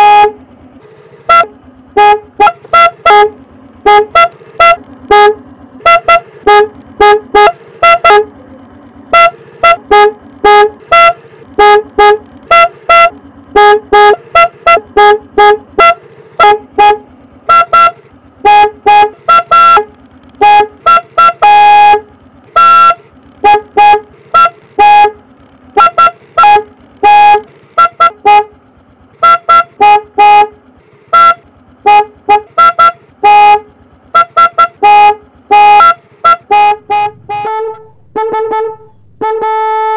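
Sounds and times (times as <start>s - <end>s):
motorcycle horn honks: 0.0s - 39.9s.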